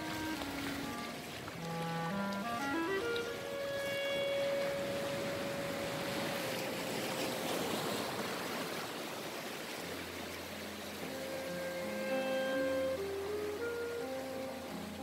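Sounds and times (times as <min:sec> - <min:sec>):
low held music notes: 0:00.0 - 0:07.2, 0:10.0 - 0:15.0
surf washing over sand: 0:00.0 - 0:15.0.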